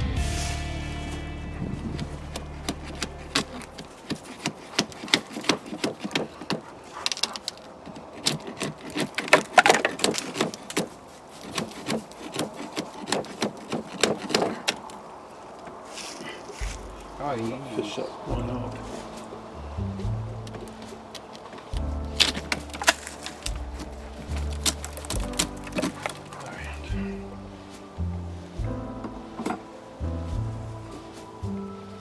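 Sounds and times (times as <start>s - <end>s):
hive tool scraping wooden bars: 2.0s - 15.0s, 15.7s - 28.0s, 29.1s - 29.7s.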